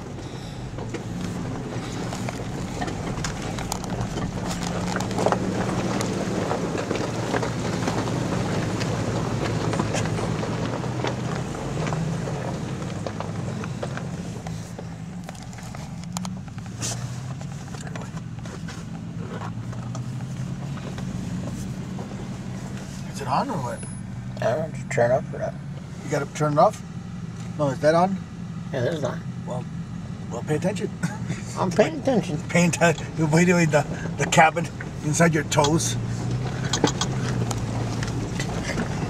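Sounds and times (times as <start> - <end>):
rocks crunching under tyres: 0.0 - 28.1, 29.3 - 39.0
car engine at low revs: 0.0 - 39.0.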